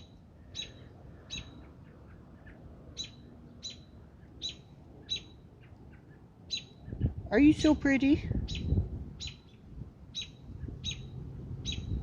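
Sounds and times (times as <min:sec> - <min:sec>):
small bird chirping: 0:00.0 - 0:07.1, 0:08.4 - 0:12.0.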